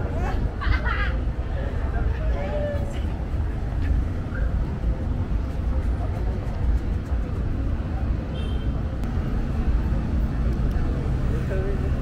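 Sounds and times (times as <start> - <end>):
indistinct chatter: 0.0 - 12.0
low rumble of traffic: 0.0 - 12.0.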